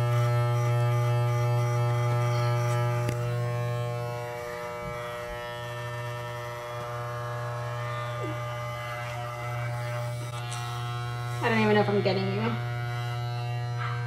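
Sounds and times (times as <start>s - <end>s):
hair clippers buzzing: 0.0s - 14.0s.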